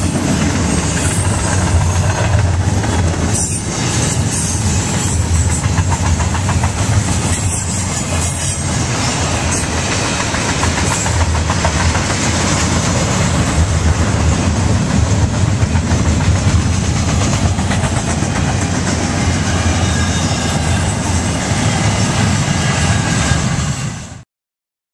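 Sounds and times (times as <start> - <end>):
train wheels clicking over rail joints: 0.0 - 23.8.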